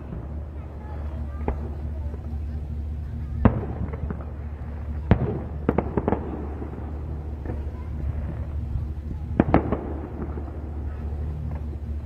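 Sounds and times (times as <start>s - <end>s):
fireworks bangs: 0.0s - 12.0s
steady low hum: 0.0s - 12.0s.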